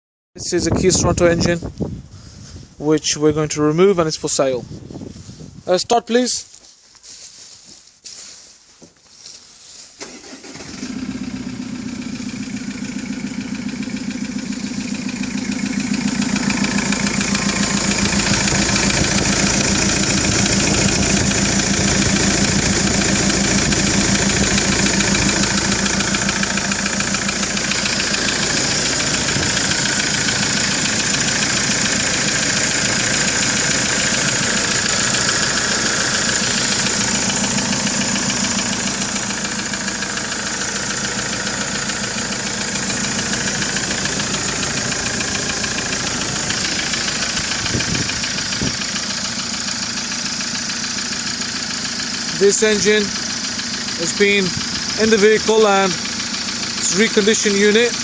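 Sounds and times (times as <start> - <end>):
diesel engine starting and idling: 9.8 - 58.0.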